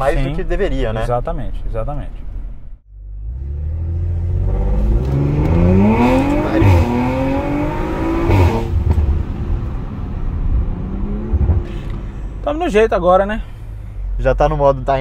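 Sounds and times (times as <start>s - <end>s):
car engine accelerating: 2.2s - 15.0s.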